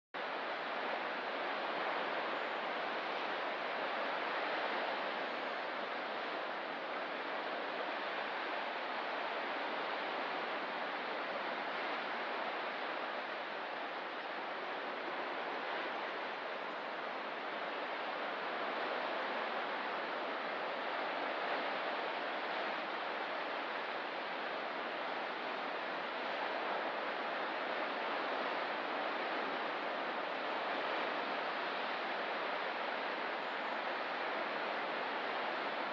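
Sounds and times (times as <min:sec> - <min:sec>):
ocean surf: 0:00.2 - 0:35.9.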